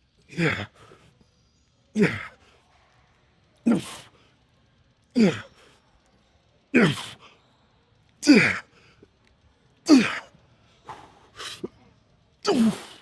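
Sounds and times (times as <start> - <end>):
quiet breaths: 0.0 - 13.0.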